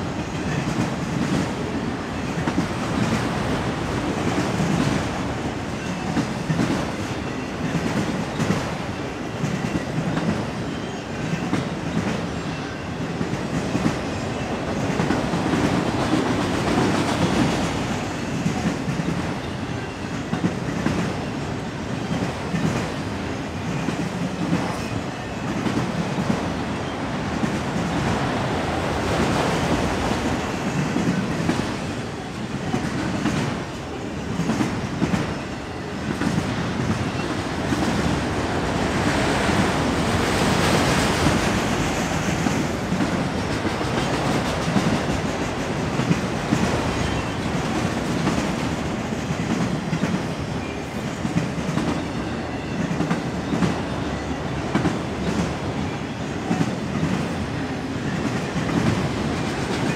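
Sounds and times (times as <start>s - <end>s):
freight train rumbling and rattling: 0.0s - 59.9s.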